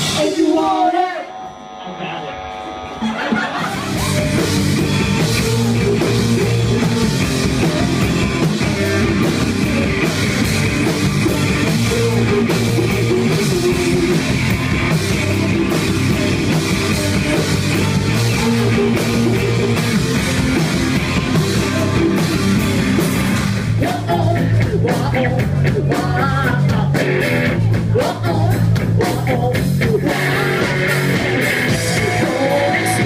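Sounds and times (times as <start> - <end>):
drum kit: 0.0 - 33.0
electric guitar: 0.0 - 33.0.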